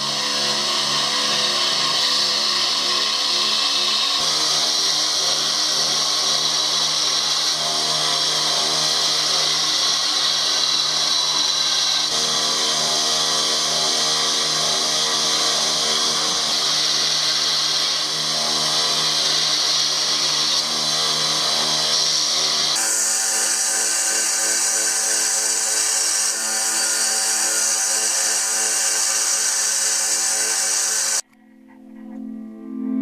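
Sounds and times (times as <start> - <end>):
belt grinder grinding steel: 0.0 - 31.2.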